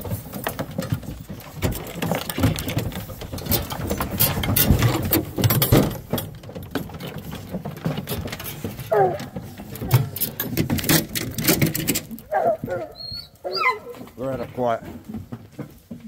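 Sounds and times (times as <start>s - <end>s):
metal dog box rattling: 0.0s - 13.1s.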